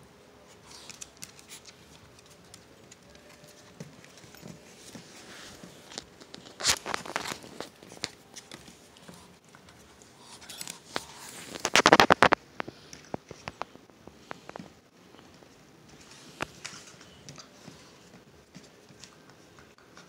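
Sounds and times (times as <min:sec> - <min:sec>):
dogs play-wrestling and scuffling: 0:00.4 - 0:11.9, 0:14.2 - 0:20.0.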